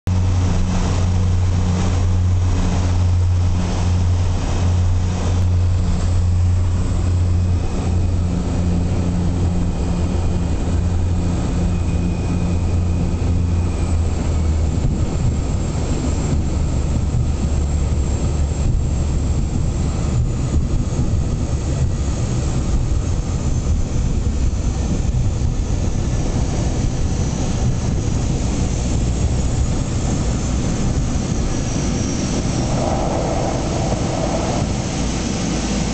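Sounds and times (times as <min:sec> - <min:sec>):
propeller engines droning: 0:00.1 - 0:35.9.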